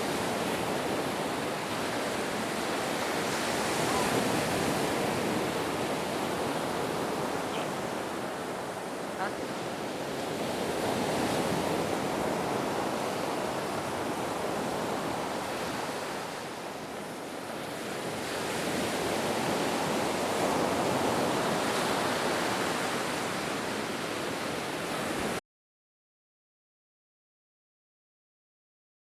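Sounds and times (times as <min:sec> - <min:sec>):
ocean waves washing in: 0:00.0 - 0:25.4.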